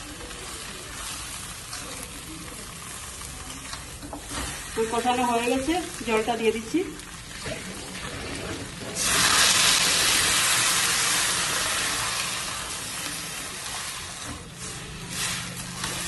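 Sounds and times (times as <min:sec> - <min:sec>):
steam hissing and oil sizzling: 0:00.0 - 0:16.0.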